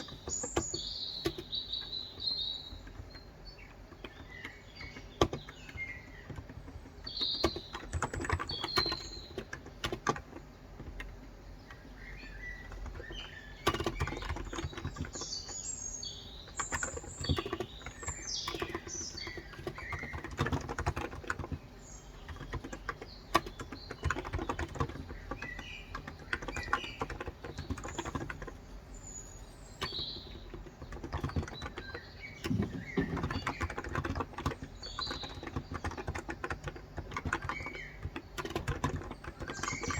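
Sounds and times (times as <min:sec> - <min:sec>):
soft keyboard keystrokes: 0:00.0 - 0:15.7, 0:16.4 - 0:28.9, 0:29.7 - 0:39.9
birds chirping: 0:00.0 - 0:39.9.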